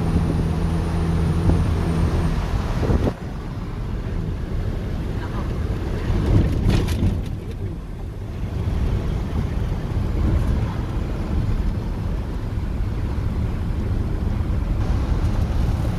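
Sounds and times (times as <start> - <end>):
truck engine and road rumble: 0.0 - 15.9.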